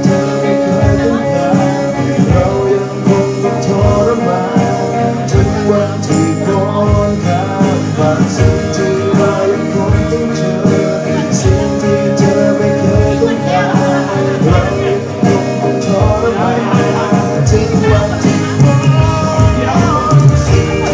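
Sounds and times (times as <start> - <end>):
electric guitar: 0.0 - 20.9
rock band playing: 0.0 - 20.9
steady drum beat: 0.0 - 20.9.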